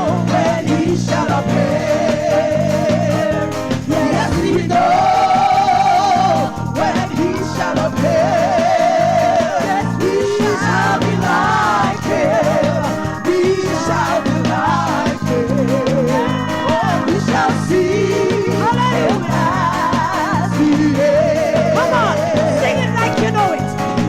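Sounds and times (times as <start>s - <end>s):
bass: 0.0s - 24.0s
keyboard chords: 0.0s - 24.0s
person singing gospel: 0.0s - 24.0s.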